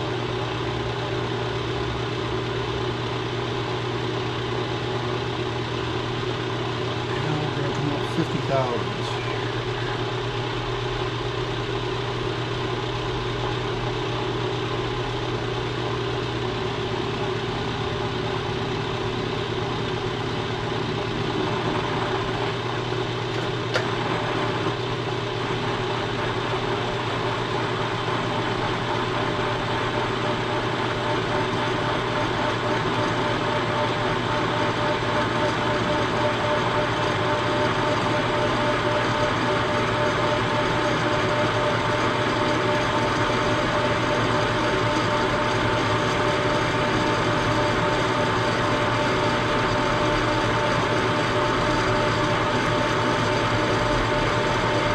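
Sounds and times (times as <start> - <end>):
machine tool cutting hum: 4.8 - 54.9.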